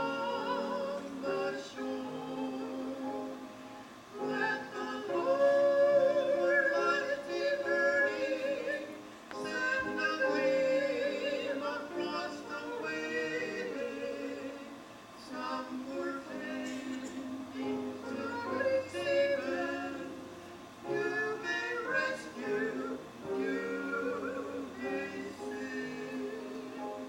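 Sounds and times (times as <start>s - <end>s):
person singing gospel: 0.0s - 27.0s.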